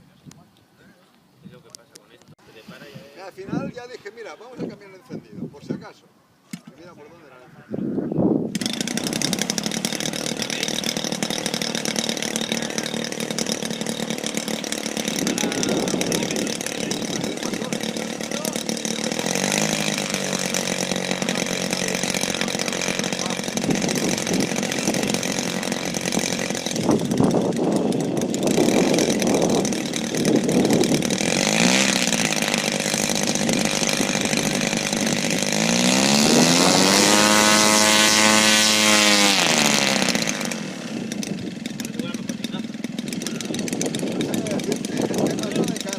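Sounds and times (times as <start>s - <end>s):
model airplane engine running: 8.5s - 45.9s.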